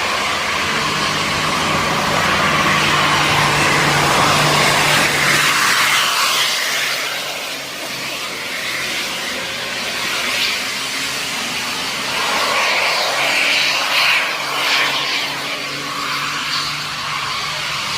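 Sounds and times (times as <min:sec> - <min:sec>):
bus exhaust rushing whoosh: 0:00.0 - 0:17.9
low engine hum: 0:00.0 - 0:17.9.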